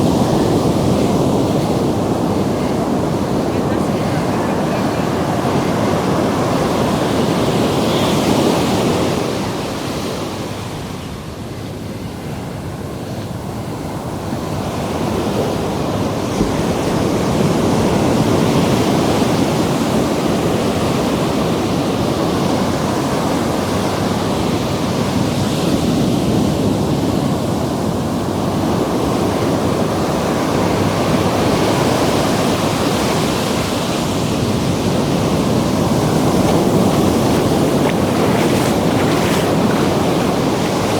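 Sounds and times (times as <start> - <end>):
ocean waves breaking on shore: 0.0 - 40.9
wind noise on microphone: 0.0 - 40.9.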